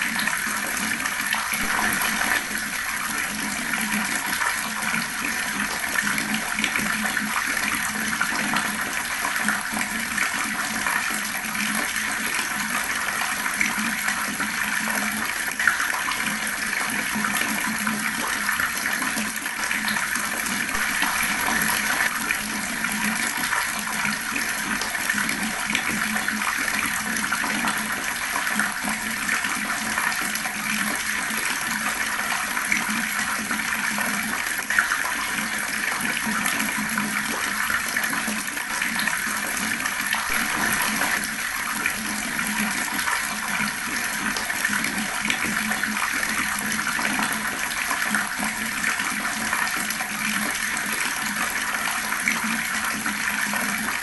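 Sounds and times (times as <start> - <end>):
water flowing fast: 0.0 - 54.0.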